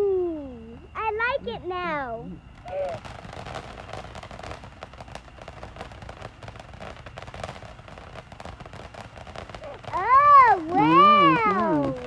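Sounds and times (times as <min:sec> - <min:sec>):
fireworks crackling: 0:00.9 - 0:12.0.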